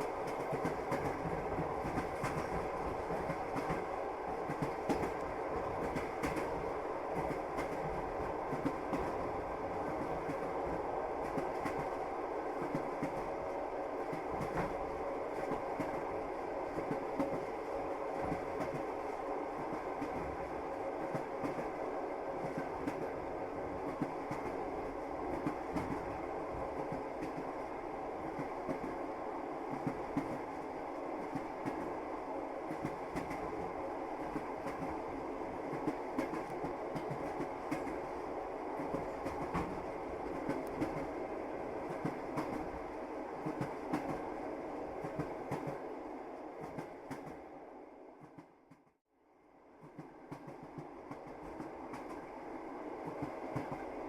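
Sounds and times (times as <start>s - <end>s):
train wheels rumbling on rails: 0.0s - 47.5s, 49.7s - 54.0s.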